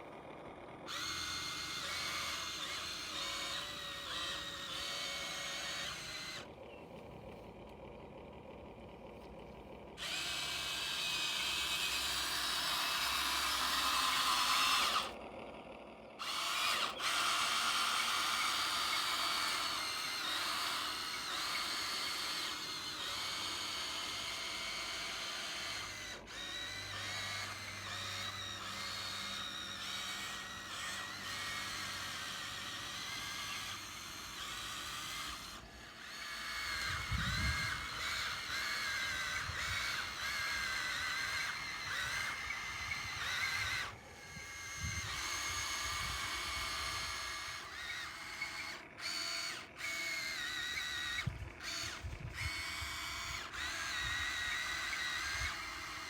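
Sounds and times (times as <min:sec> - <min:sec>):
small electric motors whining: 0:00.0 - 0:56.0.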